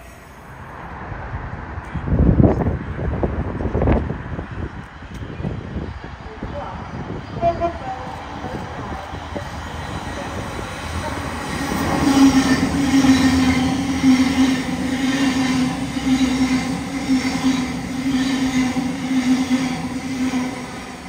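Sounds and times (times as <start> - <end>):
train passing close by: 0.0 - 21.0.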